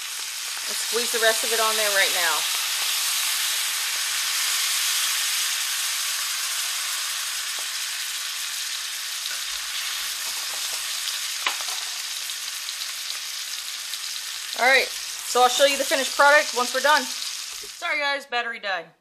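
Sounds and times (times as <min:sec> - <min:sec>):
fish sizzling in a skillet: 0:00.0 - 0:18.0.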